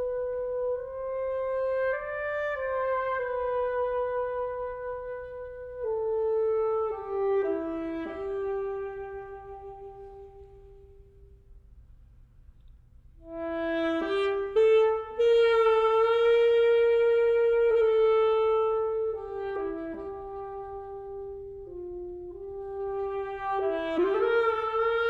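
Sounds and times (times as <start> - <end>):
solo saxophone: 0.0 - 11.6, 13.2 - 25.0.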